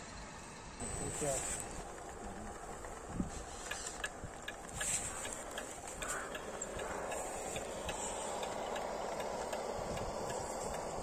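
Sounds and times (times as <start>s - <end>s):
toy truck motors whirring: 0.1s - 11.0s.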